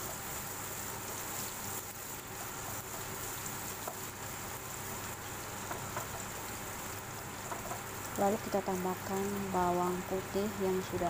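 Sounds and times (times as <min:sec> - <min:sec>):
faint stirring ticks: 0:00.0 - 0:11.0
ginger sizzling in hot oil: 0:00.0 - 0:11.0.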